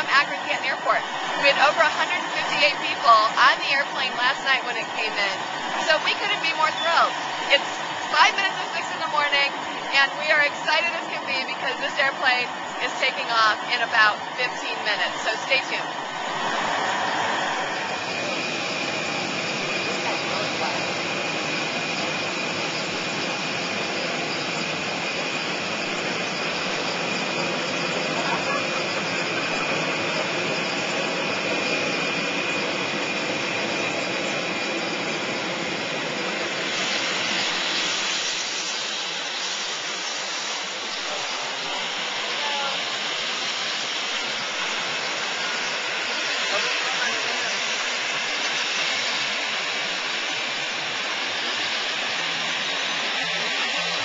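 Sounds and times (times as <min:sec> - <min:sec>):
jet engine rushing: 0:00.0 - 0:54.0
thin high whine: 0:00.0 - 0:54.0.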